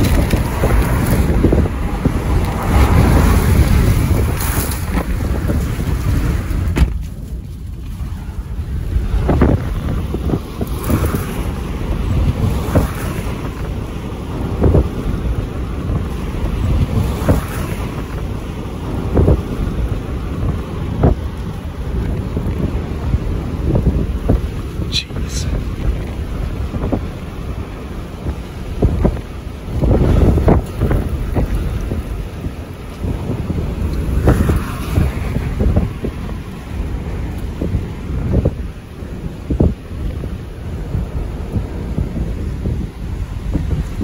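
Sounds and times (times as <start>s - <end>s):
strong wind on microphone: 0.0s - 44.0s.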